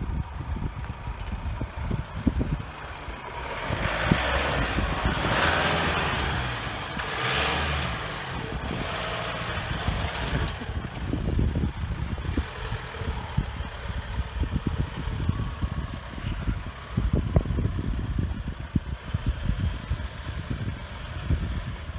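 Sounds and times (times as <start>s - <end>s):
pickup engine running: 0.0s - 21.9s.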